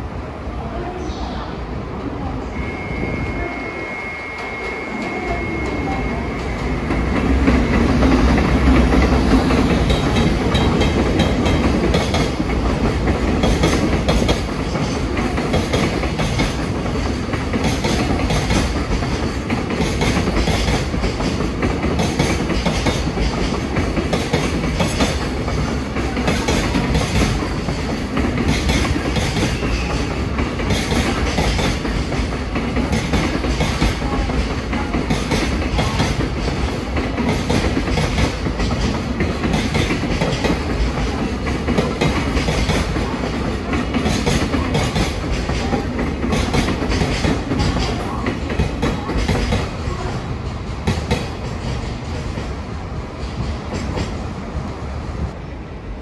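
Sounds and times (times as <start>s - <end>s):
train rumble: 0.0s - 56.0s
train wheels clacking on rail joints: 6.4s - 54.2s.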